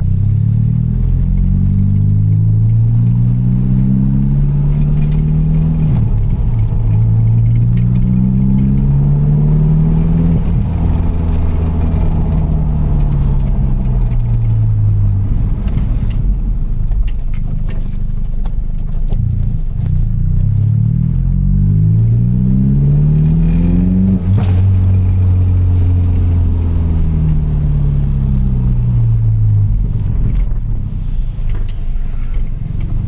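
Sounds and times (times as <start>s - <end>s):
car exhaust revving: 0.0s - 33.0s.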